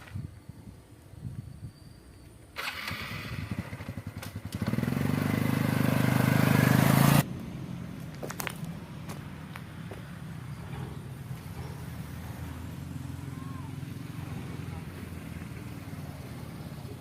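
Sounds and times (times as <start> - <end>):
engine running: 2.6 - 17.0.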